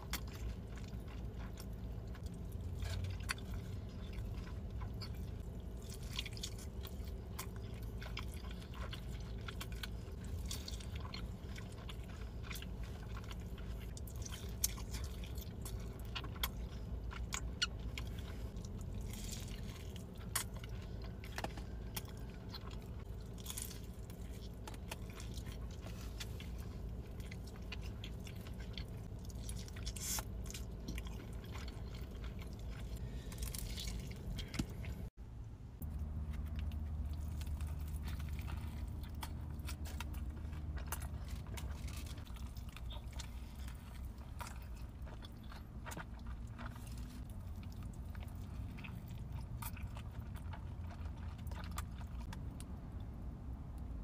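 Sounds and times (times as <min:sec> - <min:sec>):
chewing with mouth clicks: 0:00.0 - 0:35.1, 0:35.8 - 0:54.0
low steady hum: 0:00.0 - 0:54.0.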